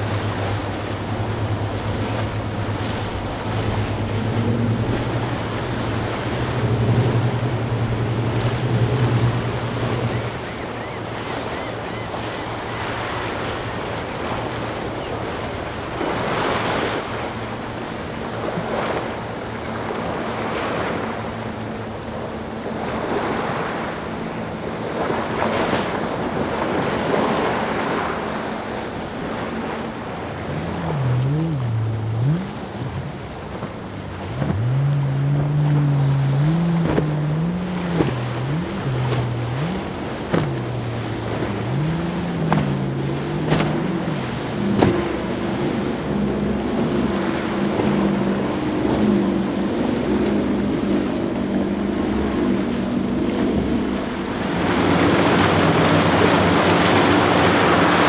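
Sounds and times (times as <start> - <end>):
motorboat engines running: 0.0 - 58.0
surf: 0.0 - 58.0.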